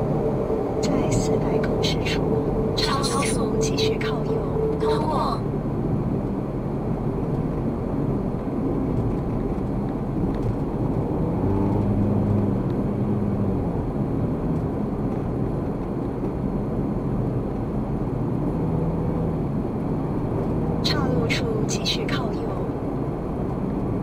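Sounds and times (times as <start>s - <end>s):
low hum: 0.0s - 24.0s
road and engine rumble: 0.0s - 24.0s.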